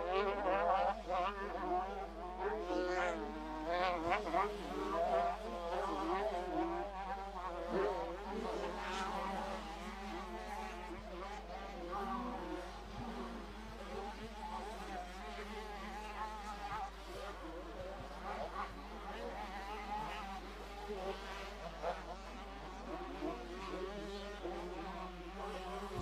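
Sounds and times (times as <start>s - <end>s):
distant motocross engines buzzing: 0.0s - 26.0s.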